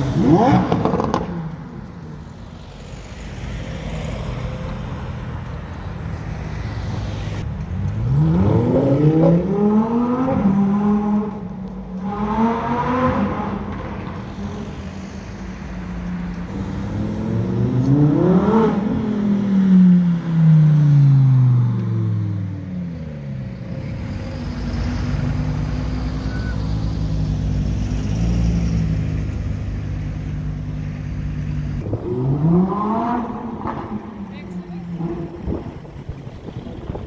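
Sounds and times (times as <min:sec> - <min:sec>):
car engine revving and passing: 0:00.0 - 0:14.4, 0:16.0 - 0:37.0
sports car engines accelerating: 0:00.0 - 0:14.4, 0:15.8 - 0:37.0.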